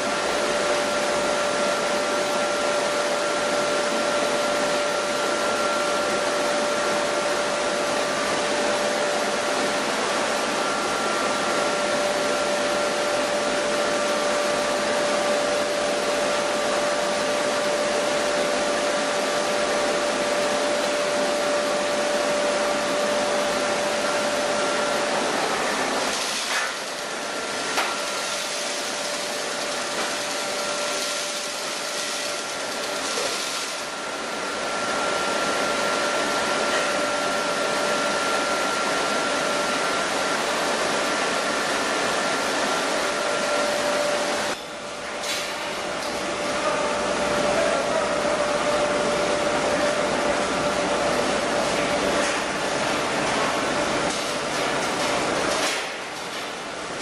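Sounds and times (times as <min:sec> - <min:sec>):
high machine whine: 0:00.0 - 0:57.0.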